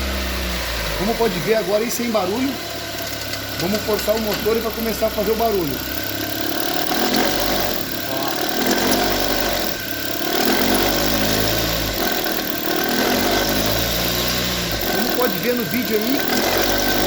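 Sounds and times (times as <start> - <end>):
alternator belt vibrating: 0.0 - 17.0
car engine revving: 0.0 - 17.0.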